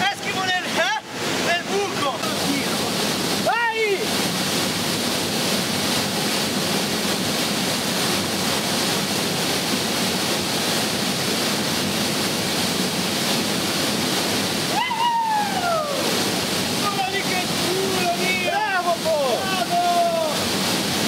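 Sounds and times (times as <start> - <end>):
water rushing over a weir: 0.0 - 21.0.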